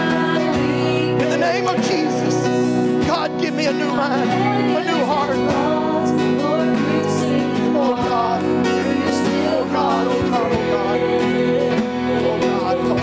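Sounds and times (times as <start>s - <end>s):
sustained keyboard chords: 0.0s - 13.0s
women singing: 0.0s - 13.0s.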